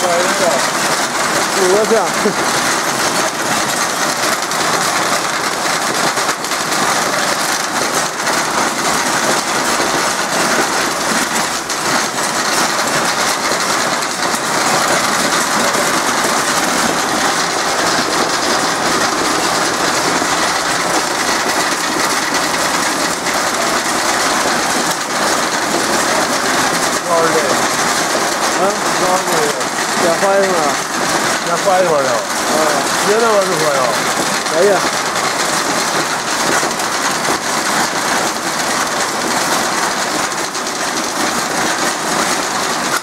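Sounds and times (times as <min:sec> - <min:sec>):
machinery clattering: 0:00.0 - 0:43.0.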